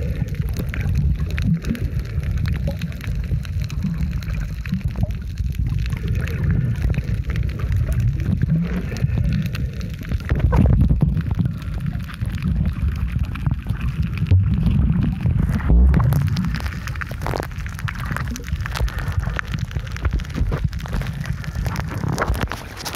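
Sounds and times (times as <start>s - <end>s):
faint crackles: 0.0s - 22.9s
underwater rumble of moving water: 0.0s - 22.9s
water gurgling: 0.0s - 22.9s.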